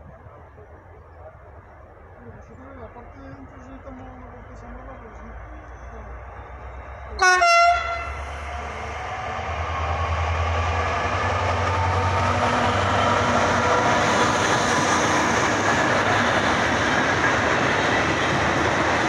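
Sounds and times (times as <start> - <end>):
diesel locomotive engine drone: 0.0 - 19.0
train wagons rumbling on rails: 0.0 - 19.0.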